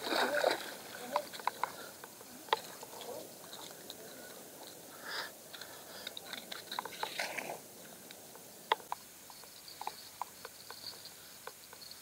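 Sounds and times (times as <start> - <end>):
small clicks and crackles: 1.0 - 4.8, 5.5 - 12.0.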